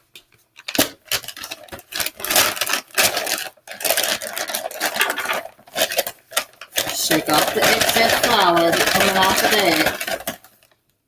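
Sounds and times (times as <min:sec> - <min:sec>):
plastic bag rustling and crinkling: 0:00.7 - 0:10.8.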